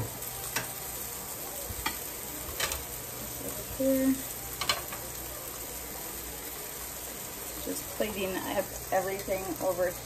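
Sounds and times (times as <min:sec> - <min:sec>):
grill sizzling: 0:00.0 - 0:10.0.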